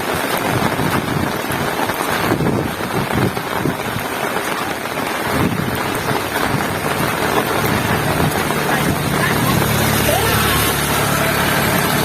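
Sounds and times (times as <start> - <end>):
heavy rain falling: 0.0 - 12.0
wind buffeting microphone: 0.0 - 12.0.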